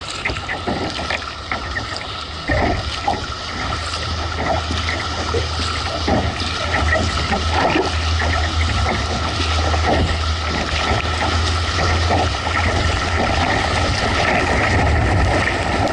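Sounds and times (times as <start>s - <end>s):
motorboat engine drone: 0.0s - 15.9s
water splashing and sloshing: 0.0s - 15.9s.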